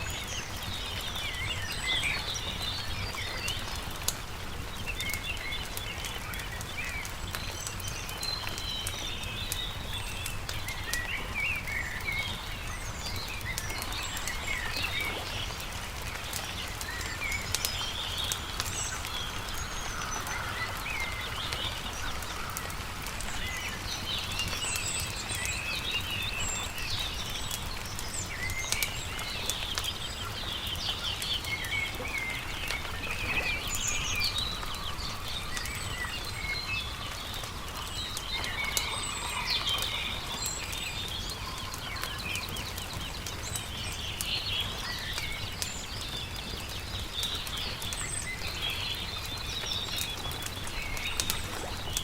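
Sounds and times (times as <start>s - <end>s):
campfire crackling: 0.0s - 52.0s
songbirds chirping and singing: 0.0s - 52.0s.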